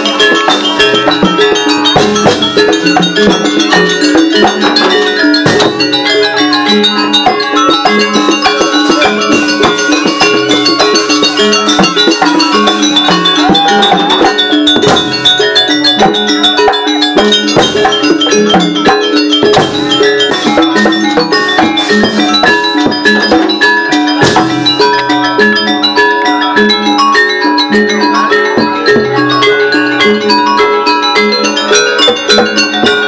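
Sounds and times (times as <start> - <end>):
drums: 0.0 - 33.0
metallophones ringing: 0.0 - 33.0.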